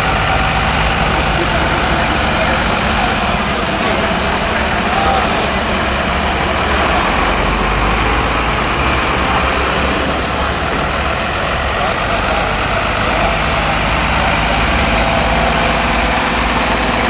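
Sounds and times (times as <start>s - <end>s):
trucks driving past: 0.0s - 17.0s.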